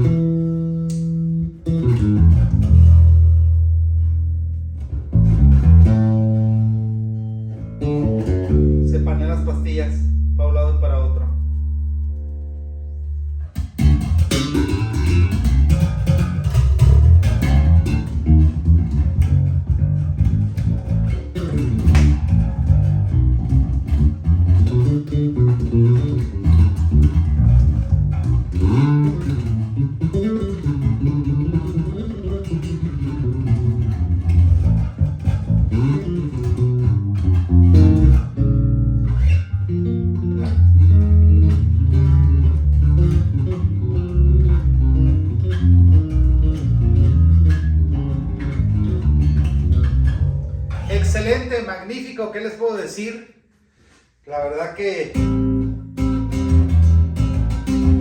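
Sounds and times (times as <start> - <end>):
electric bass fingerstyle: 0.0 - 51.6, 55.1 - 58.0.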